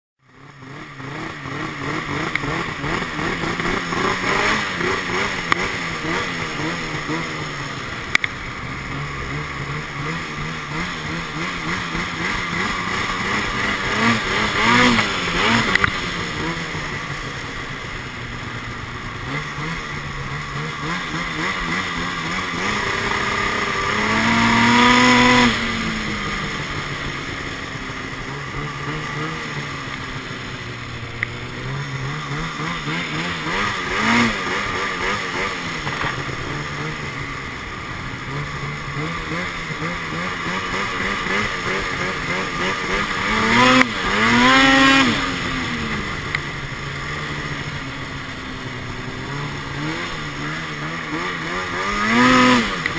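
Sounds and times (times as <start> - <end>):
snowmobile engine revving: 0.2 - 52.9.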